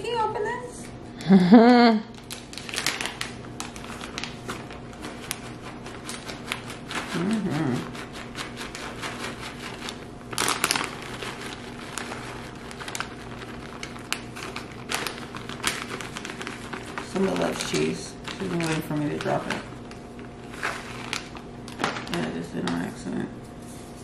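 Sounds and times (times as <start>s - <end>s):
plastic bag crinkling: 2.1s - 23.0s.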